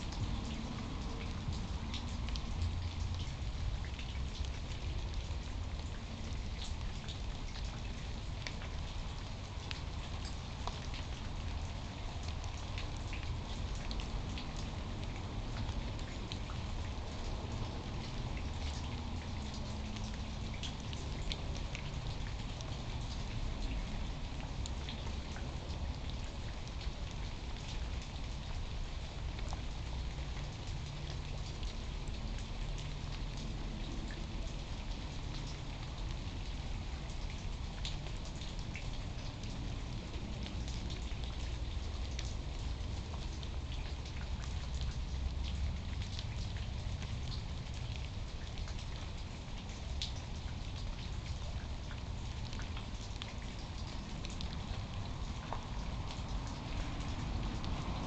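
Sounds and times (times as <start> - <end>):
raindrops ticking close: 0.0 - 58.0
steady rain falling: 0.0 - 58.0.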